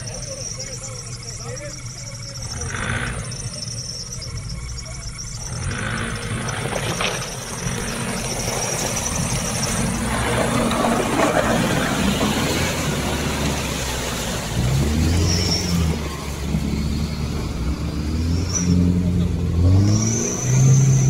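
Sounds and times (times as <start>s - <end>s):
diesel engine revving under load: 0.0s - 21.0s
tyres churning mud: 0.0s - 21.0s.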